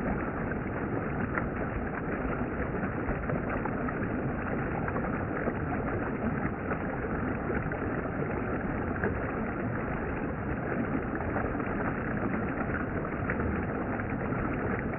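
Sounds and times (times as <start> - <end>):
stream flowing over rocks: 0.0 - 14.9.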